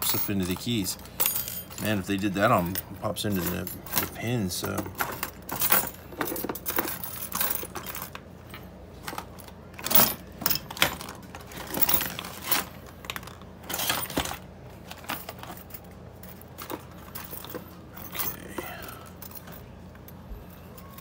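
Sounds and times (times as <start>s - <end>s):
metal tools clinking on wood: 0.0s - 21.0s.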